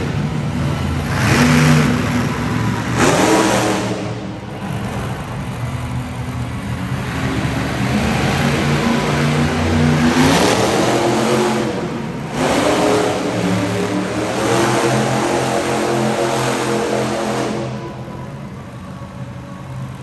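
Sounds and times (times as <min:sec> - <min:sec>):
large vehicle engine revving: 0:00.0 - 0:20.0.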